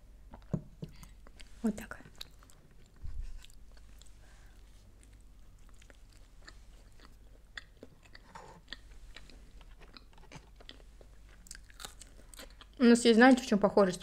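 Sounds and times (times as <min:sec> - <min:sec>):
faint chewing: 0:00.3 - 0:12.9.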